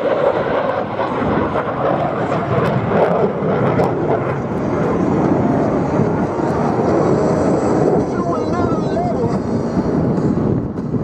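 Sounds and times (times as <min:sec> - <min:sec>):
fighter jet passing: 0:00.0 - 0:11.0.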